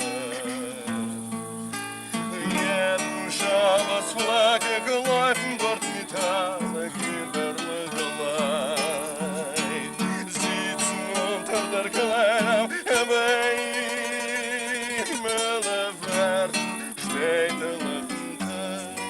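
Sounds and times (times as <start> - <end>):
person singing: 0.0 - 1.2, 2.3 - 19.0
acoustic guitar: 0.0 - 19.0.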